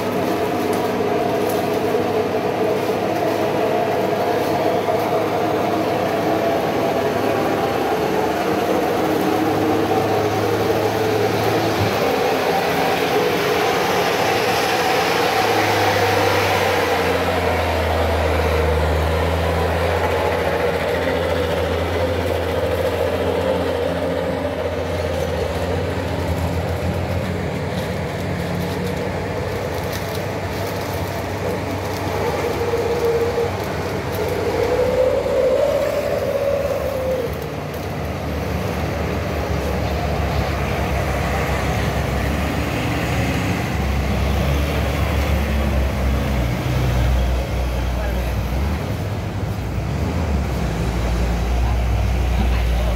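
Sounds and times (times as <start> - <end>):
heavy trucks labouring uphill: 0.0 - 52.9
wavering engine whine: 0.0 - 52.9.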